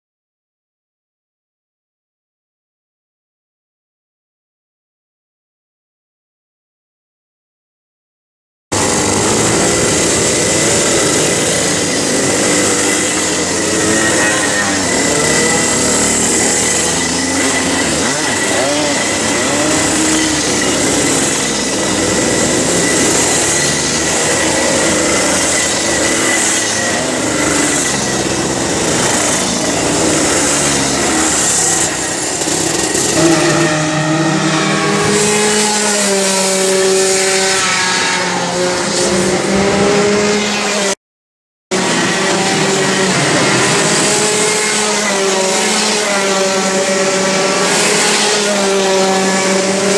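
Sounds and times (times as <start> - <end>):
kart engines buzzing: 8.7 - 41.0, 41.7 - 49.9.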